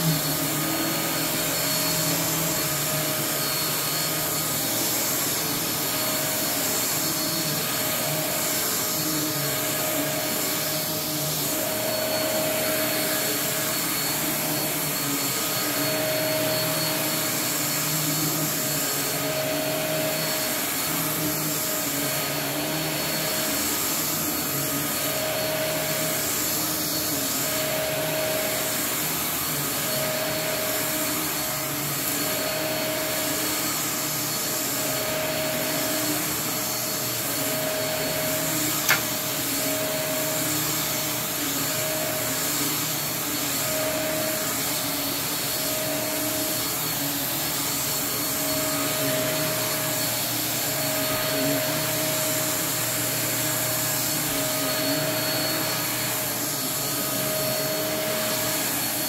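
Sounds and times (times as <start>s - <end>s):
upright vacuum cleaner running: 0.0s - 59.0s.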